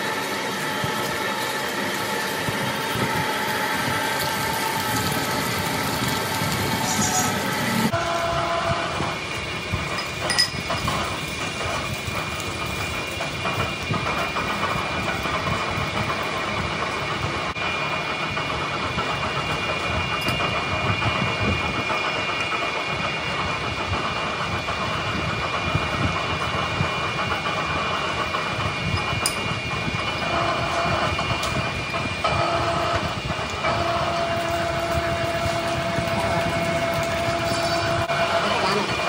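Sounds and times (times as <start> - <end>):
lathe running with high whine: 0.0 - 39.0.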